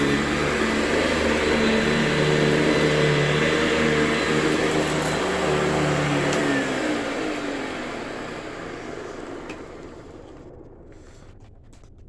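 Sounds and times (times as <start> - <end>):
vacuum cleaner running: 0.0 - 11.2
motor hum winding down: 0.0 - 11.8.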